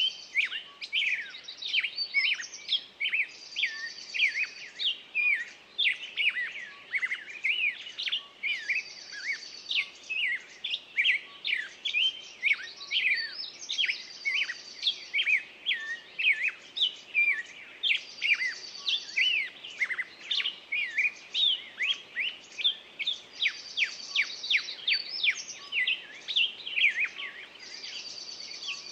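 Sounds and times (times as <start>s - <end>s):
songbirds chirping and whistling: 0.0s - 28.9s.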